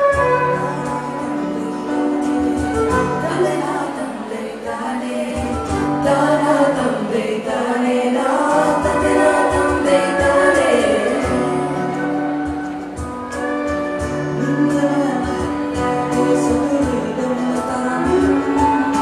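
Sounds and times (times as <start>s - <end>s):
woman and man singing: 0.0s - 12.8s, 14.1s - 19.0s
drums: 0.0s - 19.0s
violin: 0.0s - 19.0s.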